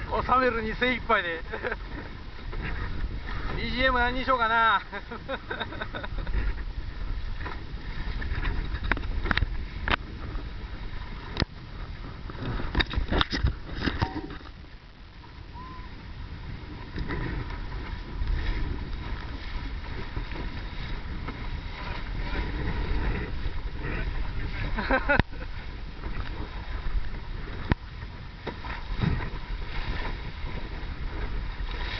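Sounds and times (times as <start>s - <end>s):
water rushing along hull: 0.0s - 31.9s
wind buffeting microphone: 0.0s - 31.9s.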